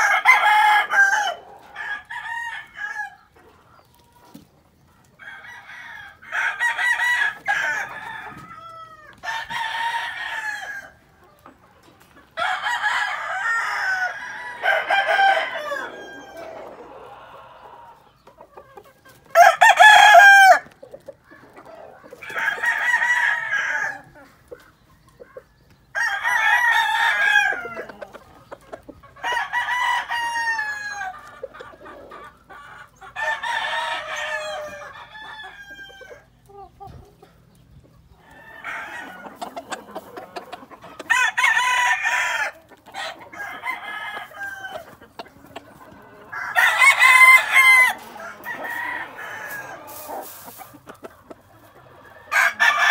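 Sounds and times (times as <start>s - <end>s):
roosters crowing: 0.0s - 3.4s, 5.2s - 11.2s, 12.3s - 18.1s, 19.2s - 20.8s, 21.4s - 24.4s, 25.9s - 36.4s, 38.1s - 52.9s.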